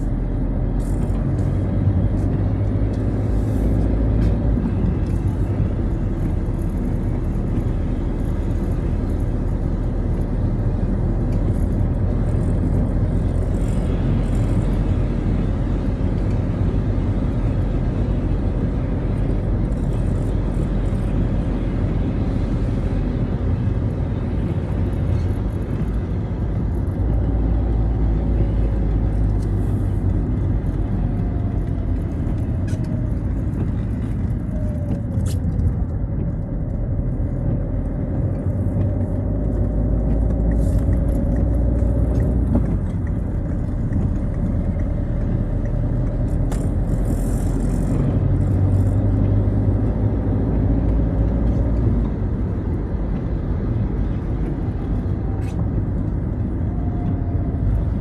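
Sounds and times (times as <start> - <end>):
car engine drone: 0.0 - 58.0
tyres on wet road: 0.0 - 58.0.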